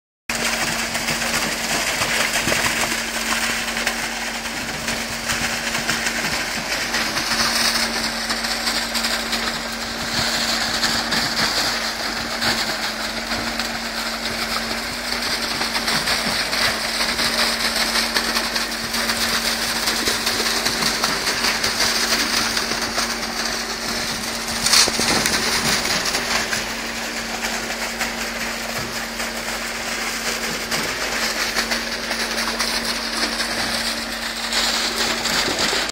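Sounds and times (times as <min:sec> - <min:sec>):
concrete rushing through hose: 0:00.3 - 0:35.9
pump truck engine hum: 0:00.3 - 0:35.9.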